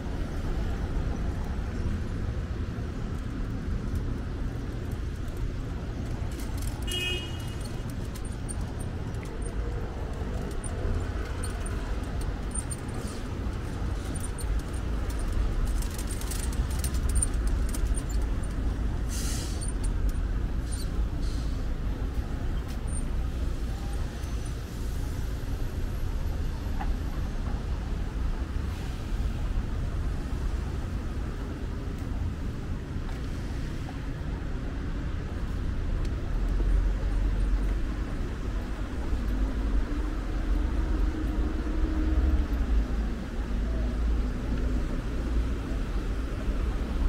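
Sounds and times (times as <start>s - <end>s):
city road traffic rumble: 0.0s - 47.0s.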